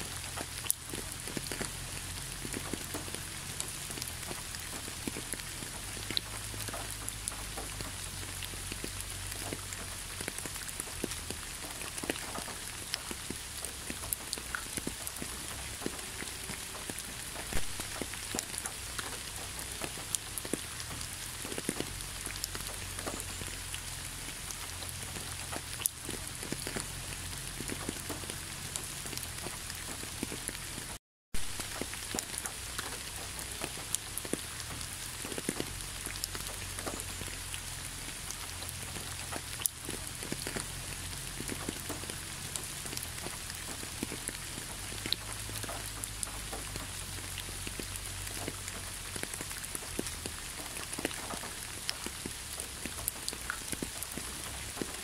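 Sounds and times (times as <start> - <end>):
rain falling steadily: 0.0 - 55.0
raindrops ticking: 0.0 - 55.0.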